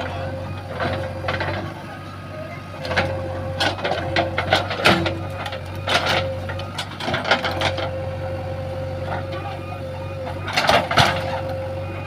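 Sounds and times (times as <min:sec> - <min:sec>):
diesel engine running with whine: 0:00.0 - 0:12.0.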